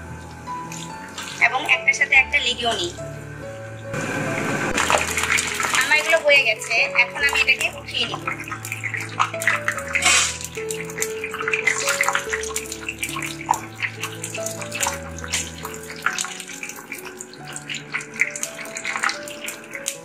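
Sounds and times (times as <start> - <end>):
batter sizzling in hot oil: 0.0 - 2.0, 3.2 - 20.0
background music with held notes: 0.0 - 20.0.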